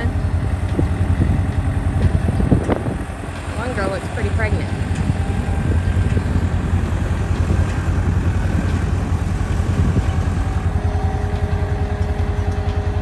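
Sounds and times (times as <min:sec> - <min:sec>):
steady whining tone: 0:00.0 - 0:13.0
tractor diesel engine running: 0:00.0 - 0:13.0.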